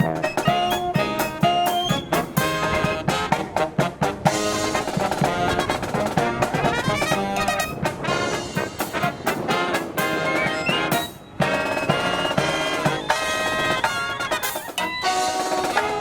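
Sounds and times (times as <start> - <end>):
marching brass band playing: 0.0 - 16.0
wind buffeting microphone: 0.0 - 16.0.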